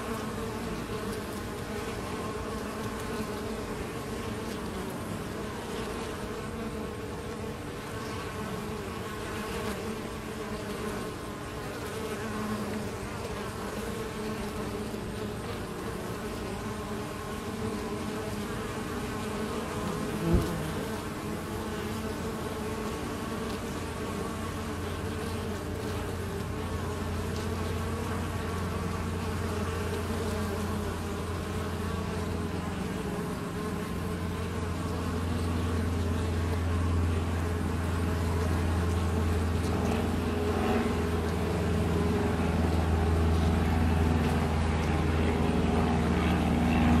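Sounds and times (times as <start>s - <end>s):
honeybees buzzing: 0.0s - 47.0s.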